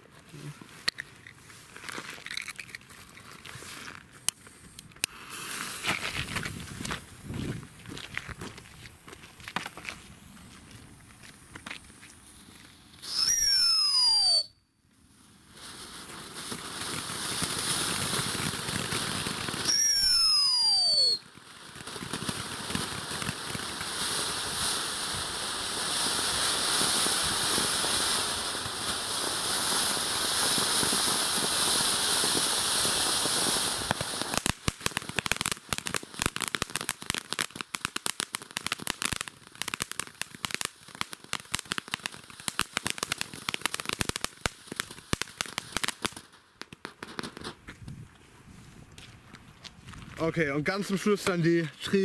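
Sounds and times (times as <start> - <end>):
firework crackling: 0.0 - 48.2
firework fountain hissing: 2.2 - 7.7, 10.1 - 47.5.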